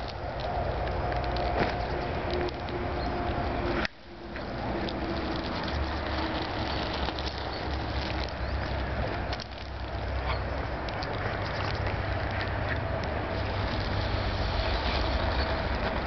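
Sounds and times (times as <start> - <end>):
low rumble with hiss: 0.0 - 16.0.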